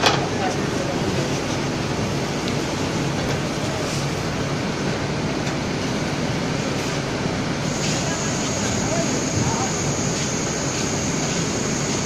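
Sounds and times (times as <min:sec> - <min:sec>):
conveyor belt running: 0:00.0 - 0:12.0.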